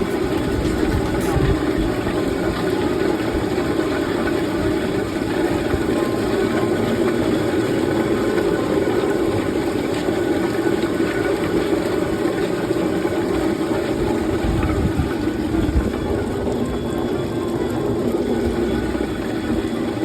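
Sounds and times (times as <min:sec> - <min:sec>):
peeling machine drone: 0:00.0 - 0:20.0.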